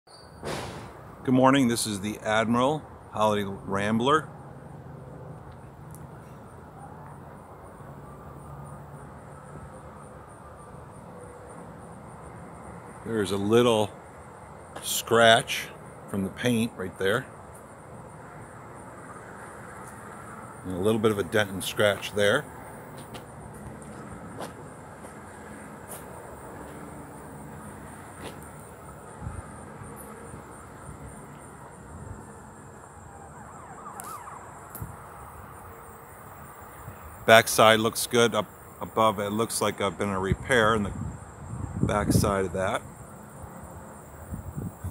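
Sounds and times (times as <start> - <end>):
insects chirping: 0.1 - 44.9.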